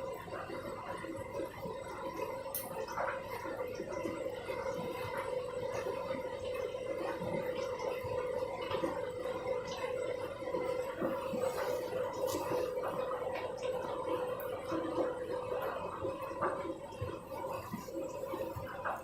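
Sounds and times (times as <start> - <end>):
washing machine motor whine: 0.0 - 19.0
water gurgling and sloshing: 0.0 - 19.0.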